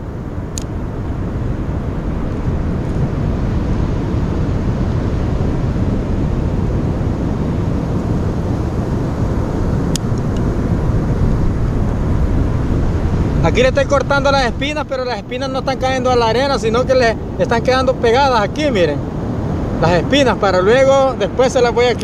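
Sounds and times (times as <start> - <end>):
ocean surf breaking: 0.0 - 22.0
wind: 0.0 - 22.0.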